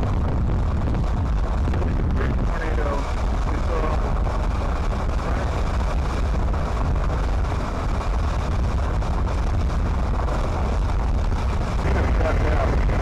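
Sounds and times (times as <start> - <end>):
vehicle road and wind noise: 0.0 - 13.0.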